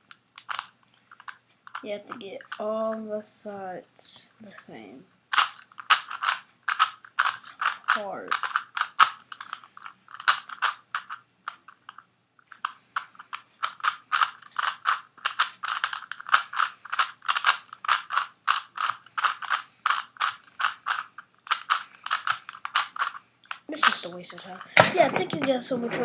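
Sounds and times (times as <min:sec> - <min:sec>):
puzzle cube plastic clacking: 0:00.0 - 0:02.6, 0:05.3 - 0:26.0.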